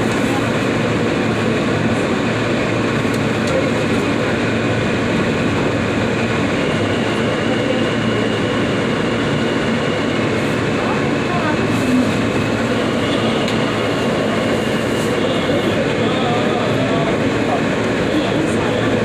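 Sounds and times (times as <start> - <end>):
subway train rumble and rattle: 0.0 - 19.0.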